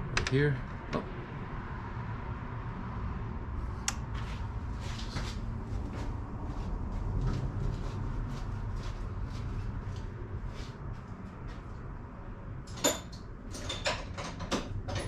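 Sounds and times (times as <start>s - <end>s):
steady low rumble: 0.0s - 12.7s.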